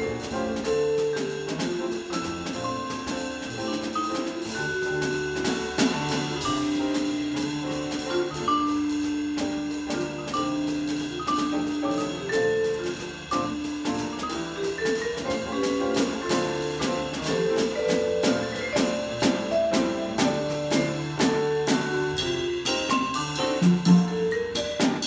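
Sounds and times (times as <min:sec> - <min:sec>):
drum and cymbal strokes: 0:00.0 - 0:25.0
piano: 0:00.0 - 0:25.0
vibraphone notes: 0:00.0 - 0:25.0.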